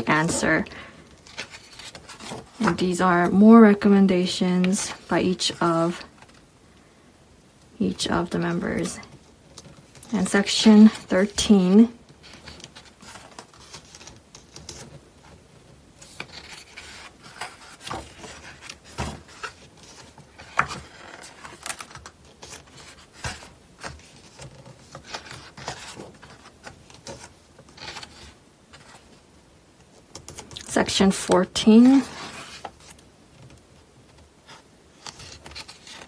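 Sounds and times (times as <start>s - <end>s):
paper pages rustling: 0.0s - 3.4s, 8.4s - 29.2s, 29.9s - 36.0s.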